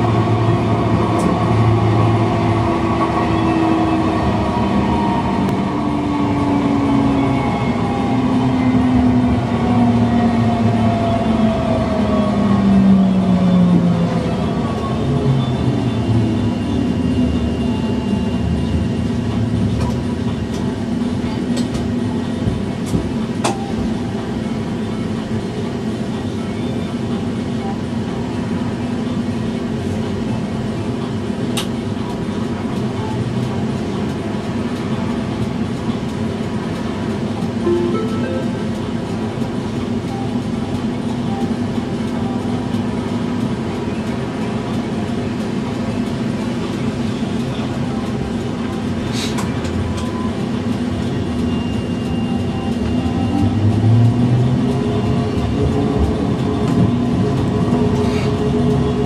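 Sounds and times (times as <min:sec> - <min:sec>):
tram humming and rumbling: 0:00.0 - 0:59.0.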